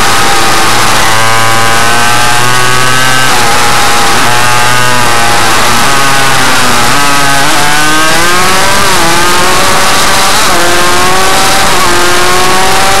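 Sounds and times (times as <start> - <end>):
motorcycle engine revving hard: 0.0 - 13.0.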